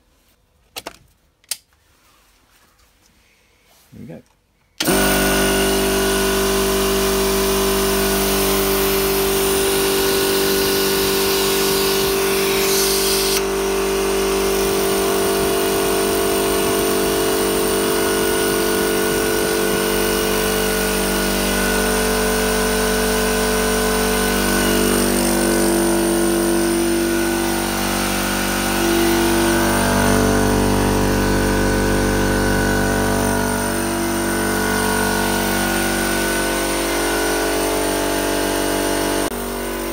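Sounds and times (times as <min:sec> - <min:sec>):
air compressor running: 0:04.8 - 0:39.9.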